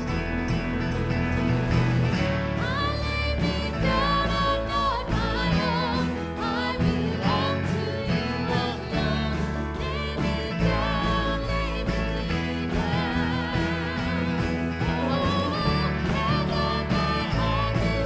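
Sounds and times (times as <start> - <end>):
instrumental accompaniment chords: 0.0 - 18.0
choir singing a hymn: 2.6 - 18.0.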